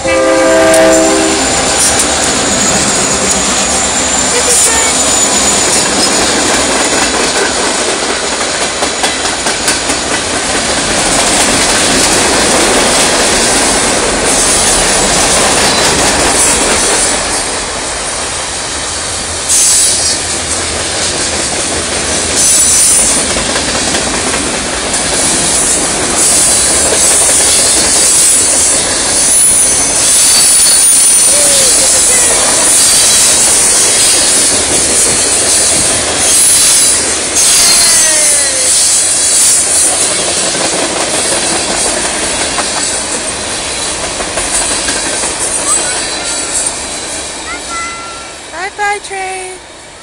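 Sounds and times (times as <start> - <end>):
train wheels clacking: 0.0 - 48.1
freight train rumbling past: 0.0 - 50.0.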